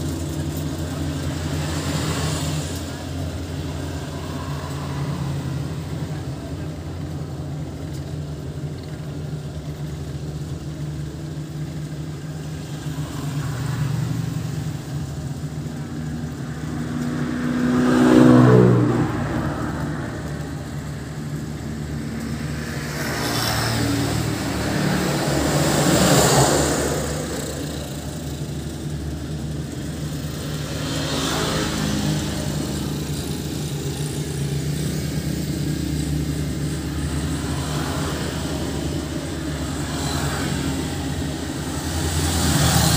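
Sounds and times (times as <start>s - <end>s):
harvester engine running: 0.0s - 42.9s.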